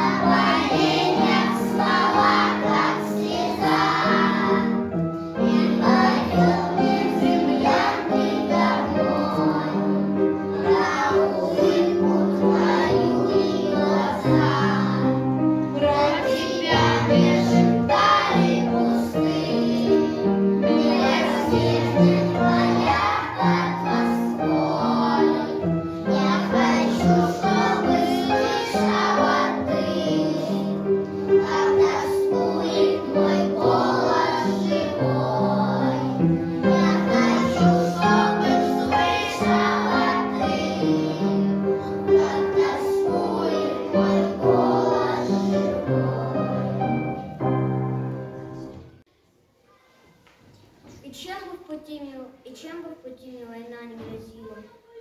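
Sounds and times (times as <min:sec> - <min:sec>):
voices singing: 0:00.0 - 0:47.6.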